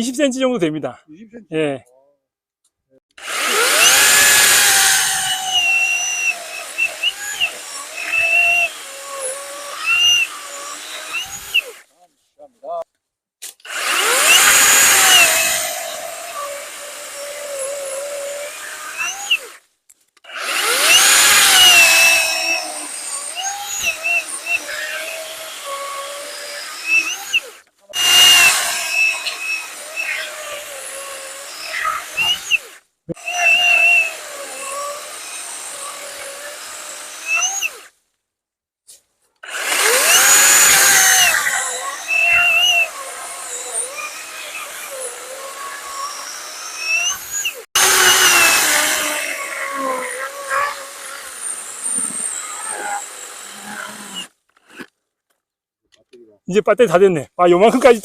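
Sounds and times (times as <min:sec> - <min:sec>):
electric chainsaw cutting log: 0:03.1 - 0:11.9, 0:13.4 - 0:19.6, 0:20.2 - 0:38.0, 0:39.4 - 0:55.0.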